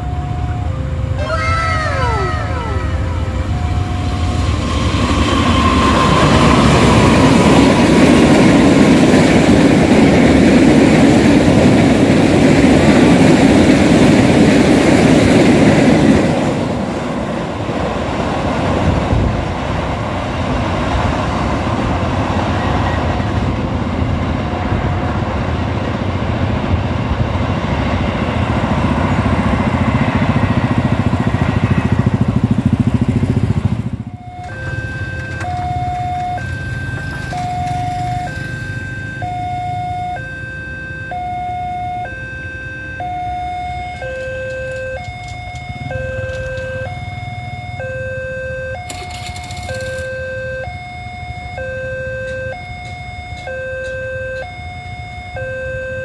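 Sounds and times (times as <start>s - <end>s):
diesel train passing: 0.0s - 55.5s.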